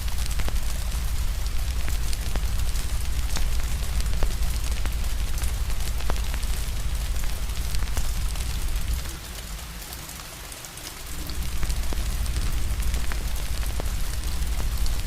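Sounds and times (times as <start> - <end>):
low rumble: 0.0 - 9.2, 11.1 - 15.0
steady rain: 0.0 - 15.0
wood fire crackling: 0.0 - 15.0.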